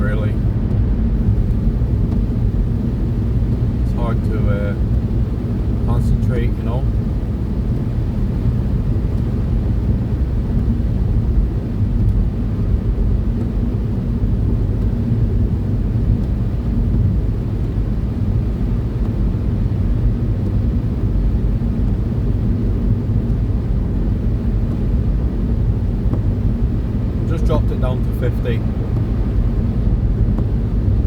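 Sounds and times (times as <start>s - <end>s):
car interior road rumble: 0.0s - 31.0s.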